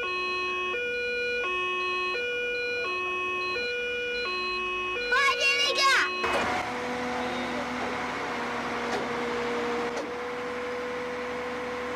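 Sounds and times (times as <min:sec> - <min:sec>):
two-tone fire truck siren: 0:00.0 - 0:11.9.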